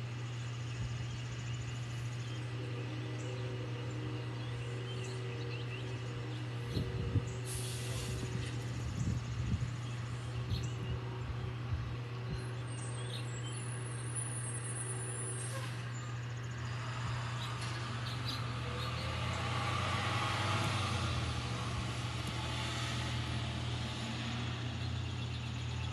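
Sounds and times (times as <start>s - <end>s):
truck engine running: 0.0s - 25.9s.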